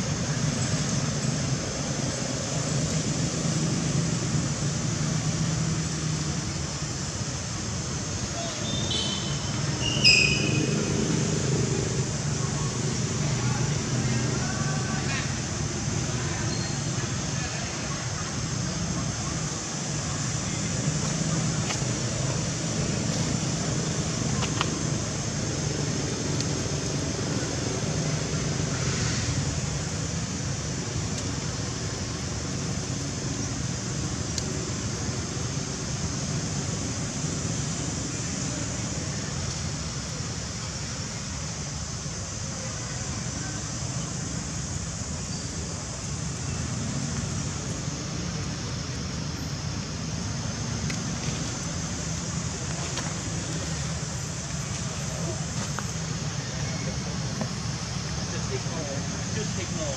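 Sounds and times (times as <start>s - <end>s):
high hiss: 0.0s - 59.9s.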